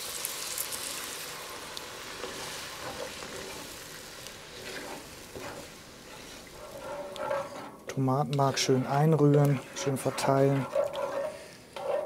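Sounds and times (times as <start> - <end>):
stock sizzling in hot pot: 0.0 - 12.0
spatula stirring: 2.2 - 12.0.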